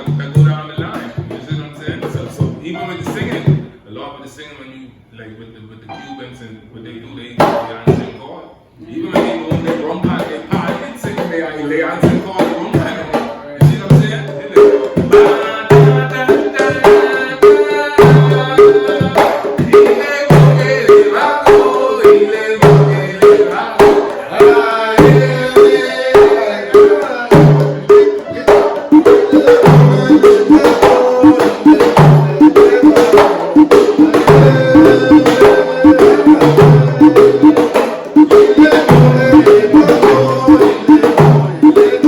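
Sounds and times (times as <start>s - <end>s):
hand drums playing: 0.0s - 3.8s, 7.4s - 8.2s, 8.9s - 42.0s.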